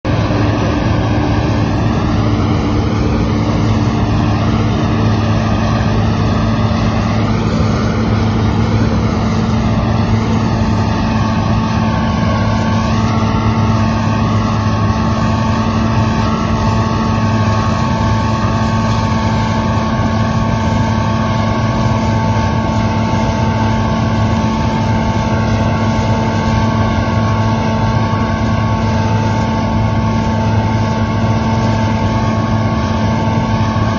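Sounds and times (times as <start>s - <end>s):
combine harvester engine drone: 0.0s - 33.9s
high steady whine: 0.0s - 33.9s.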